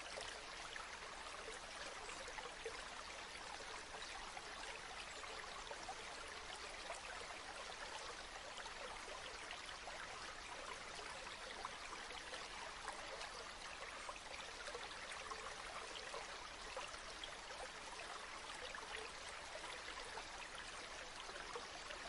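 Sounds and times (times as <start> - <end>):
river water babbling: 0.0 - 22.0.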